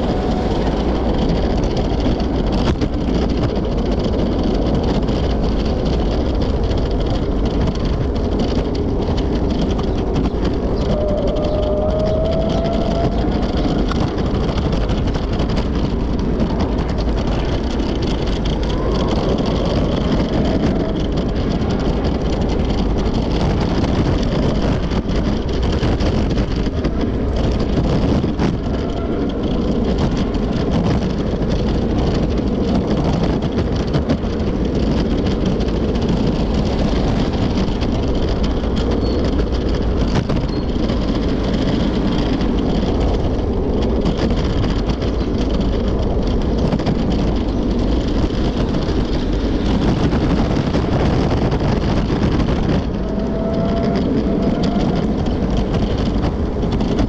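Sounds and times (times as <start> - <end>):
road traffic passing: 0.0 - 32.8, 34.3 - 57.0
wind on microphone: 0.0 - 57.0.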